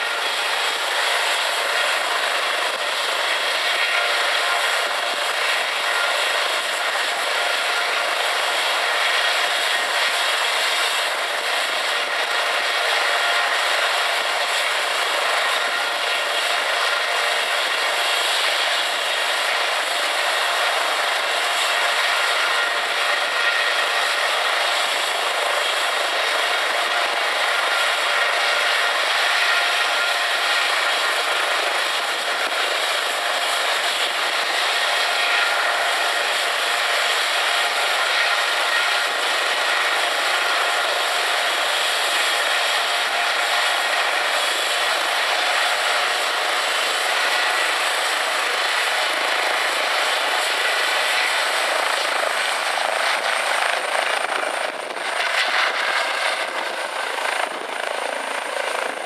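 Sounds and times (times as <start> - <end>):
helicopter turbine whine and rotors: 0.0 - 59.0.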